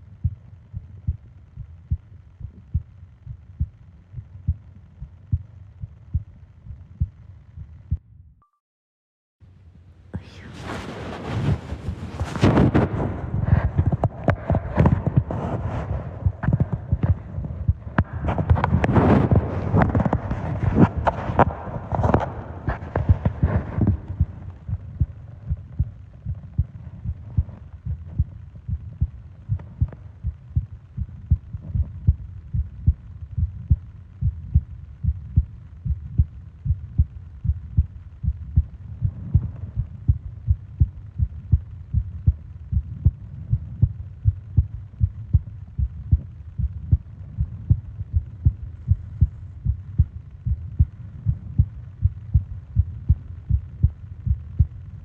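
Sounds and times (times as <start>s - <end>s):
heartbeat thumps: 0.1s - 8.1s, 10.2s - 54.9s.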